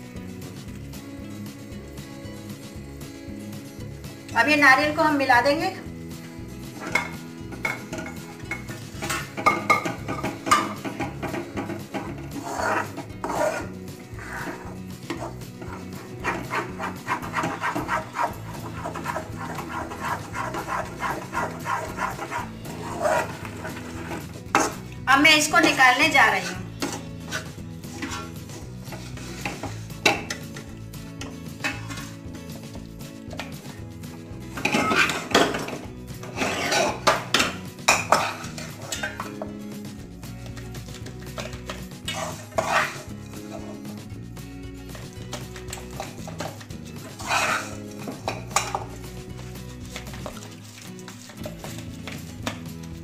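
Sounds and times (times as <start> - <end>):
spatula scraping a pan: 6.6 - 39.8, 40.5 - 44.0, 44.8 - 53.0.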